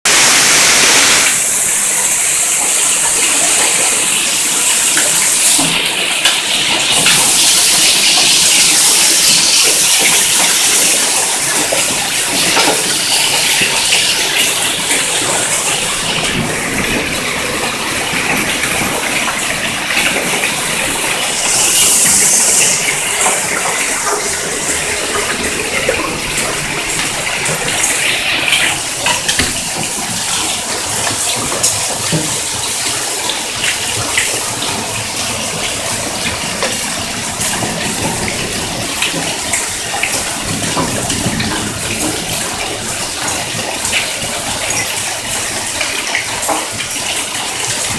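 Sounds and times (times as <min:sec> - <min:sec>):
heavy hail falling: 0:00.1 - 0:47.9.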